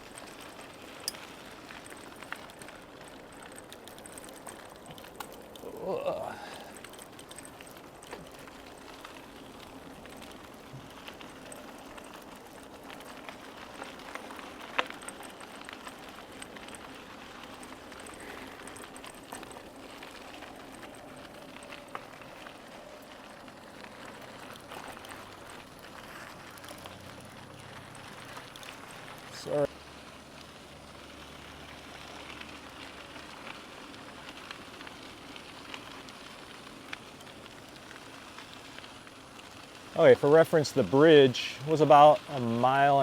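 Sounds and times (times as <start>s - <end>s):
bicycle tyres rolling on trail: 0.0s - 43.0s.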